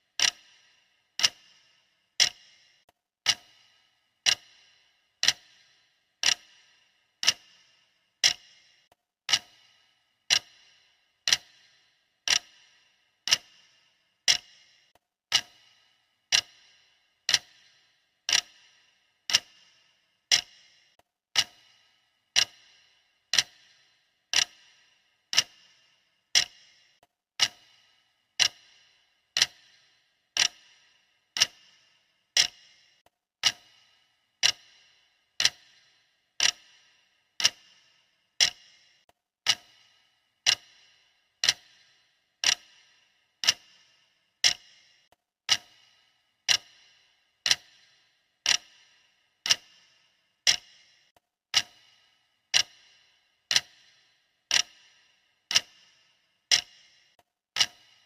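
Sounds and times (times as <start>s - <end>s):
timer ticking: 0.0s - 58.0s.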